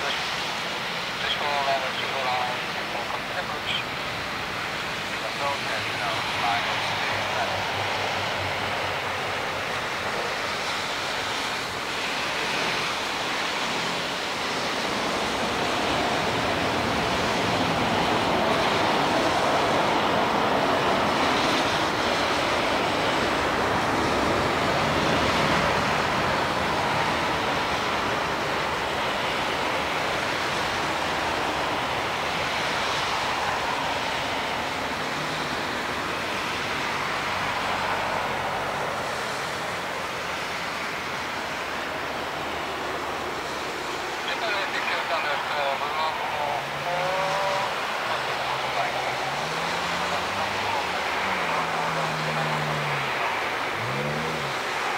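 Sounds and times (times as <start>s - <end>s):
jet engines in reverse thrust: 0.0s - 54.9s.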